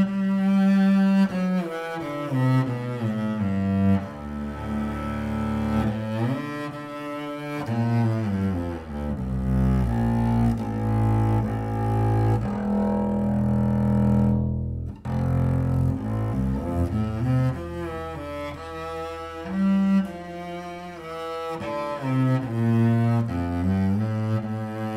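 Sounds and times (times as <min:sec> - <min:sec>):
bowed double bass notes: 0:00.0 - 0:24.9.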